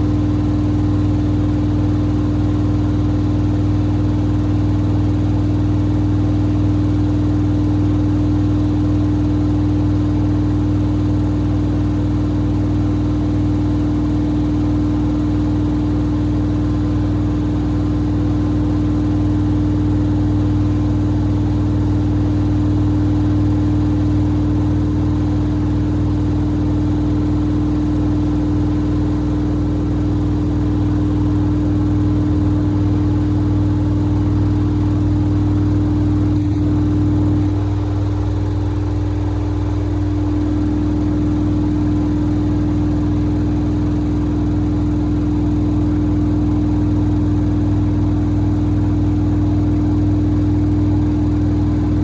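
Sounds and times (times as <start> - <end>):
washing machine motor hum: 0.0 - 52.0.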